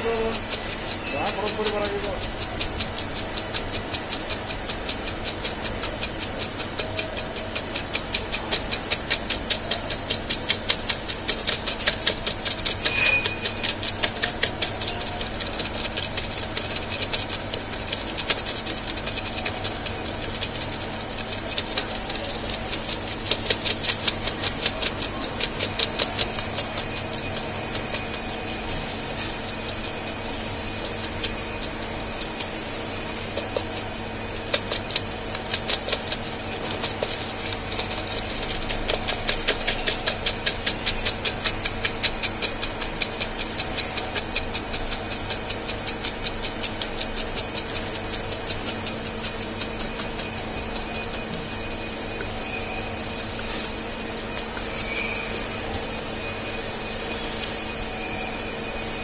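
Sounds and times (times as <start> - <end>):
drilling machine running: 0.0 - 59.0
rapid regular ticking: 0.0 - 59.0.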